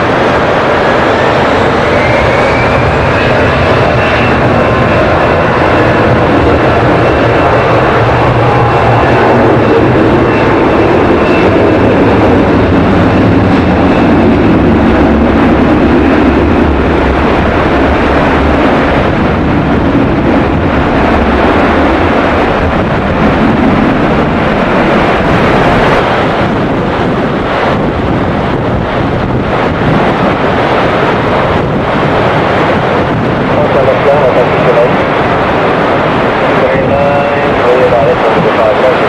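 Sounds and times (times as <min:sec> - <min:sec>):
heavy rain: 0:00.0 - 0:39.0
jet engines running: 0:00.0 - 0:39.0
strong wind: 0:00.0 - 0:39.0.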